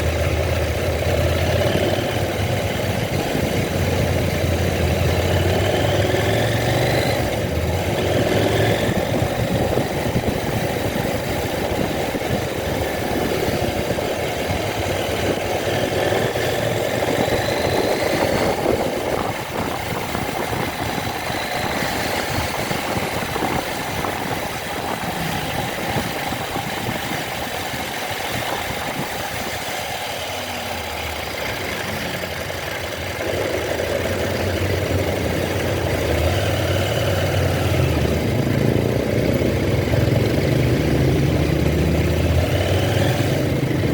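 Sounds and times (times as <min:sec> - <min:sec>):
road and wind noise: 0:00.0 - 0:43.9
vehicle engine running: 0:00.0 - 0:43.9.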